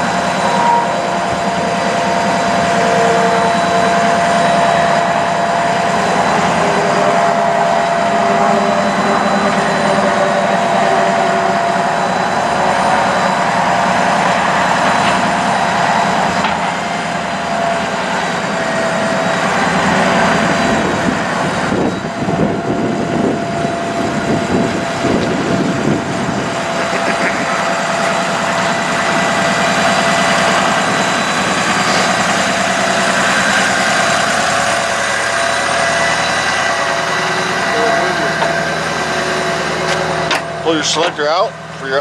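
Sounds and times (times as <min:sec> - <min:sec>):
steady high tone: 0:00.0 - 0:41.7
truck engine idling: 0:00.0 - 0:42.0.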